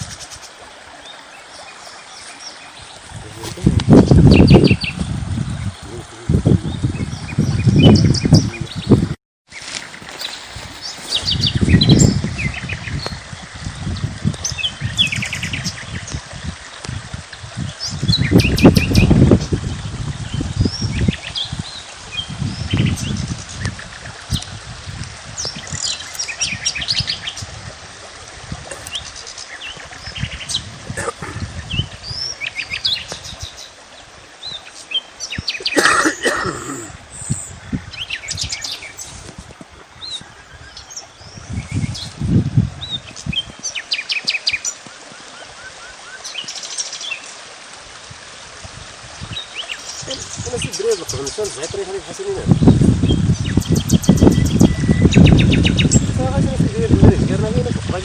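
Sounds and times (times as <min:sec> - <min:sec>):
small birds chirping: 0:00.0 - 0:13.2, 0:17.6 - 0:27.5, 0:28.7 - 0:47.3, 0:49.2 - 0:56.4.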